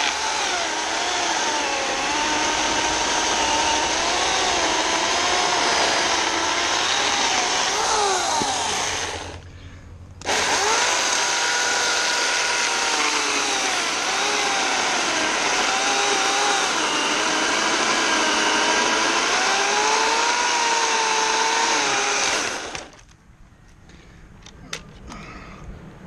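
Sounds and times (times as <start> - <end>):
electric chainsaw cutting a log: 0.0 - 9.4, 10.2 - 23.0.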